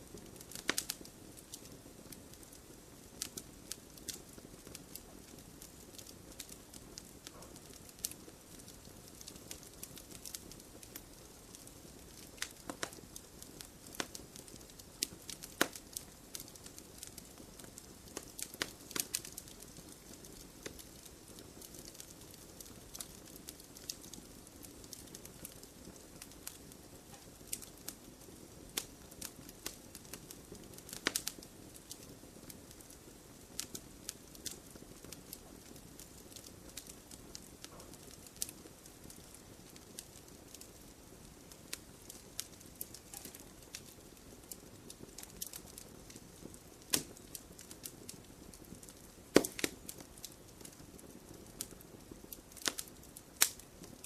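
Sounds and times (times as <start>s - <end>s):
flames rushing: 0.0s - 26.8s, 27.4s - 54.0s
campfire crackling and popping: 0.0s - 54.0s.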